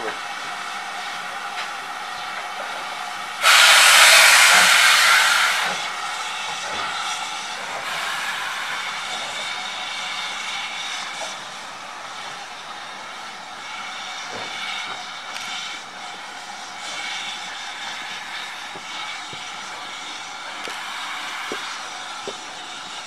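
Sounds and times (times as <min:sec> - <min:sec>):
steam locomotive hissing: 0:00.0 - 0:23.0
loud blast of escaping steam: 0:02.9 - 0:23.0.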